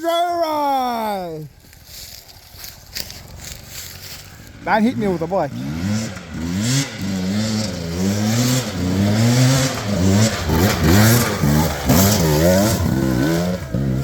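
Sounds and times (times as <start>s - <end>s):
dirt bike engine revving: 0.7s - 14.0s.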